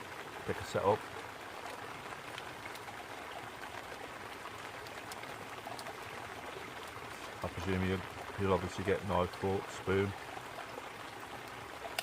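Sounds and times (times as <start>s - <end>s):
brook babbling: 0.0s - 12.0s
rain pattering on a tarp: 0.0s - 12.0s.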